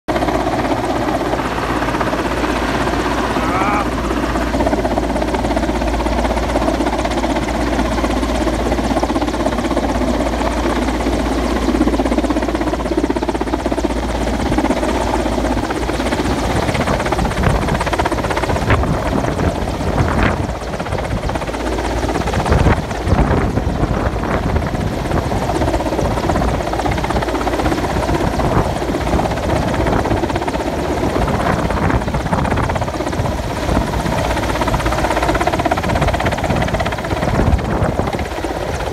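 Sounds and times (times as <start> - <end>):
helicopter rotors and engines: 0.1 - 38.9
wind buffeting microphone: 3.9 - 38.9.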